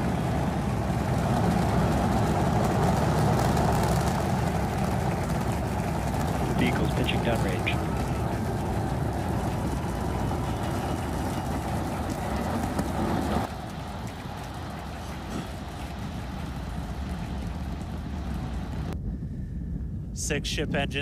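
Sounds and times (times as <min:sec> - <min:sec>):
rocket engines roaring: 0:00.0 - 0:19.0.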